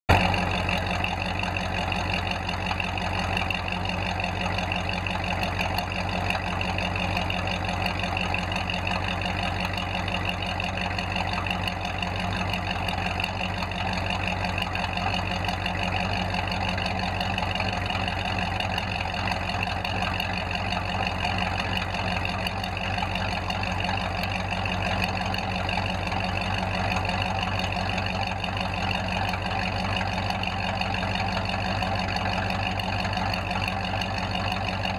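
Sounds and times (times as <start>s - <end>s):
vee eight engine idling: 0.1s - 34.9s.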